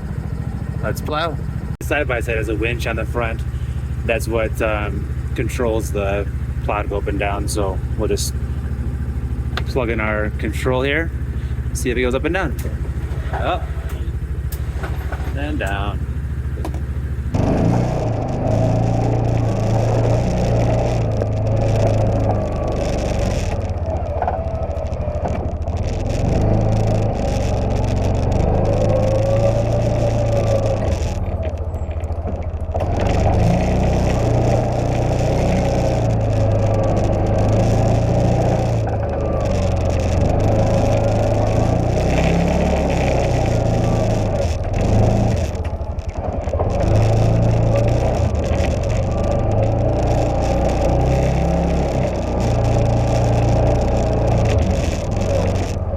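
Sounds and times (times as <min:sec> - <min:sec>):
utility vehicle engine working: 0:00.0 - 0:55.9.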